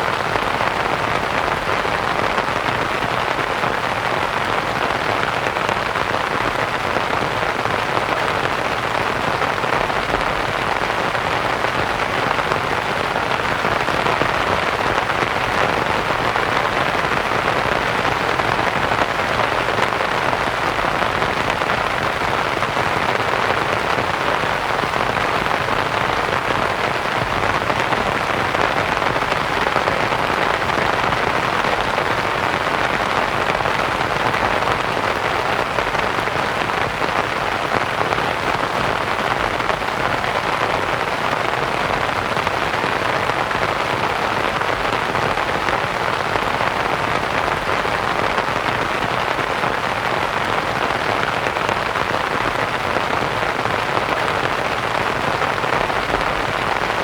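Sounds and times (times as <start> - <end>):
rain pattering on a tent: 0.0 - 57.0.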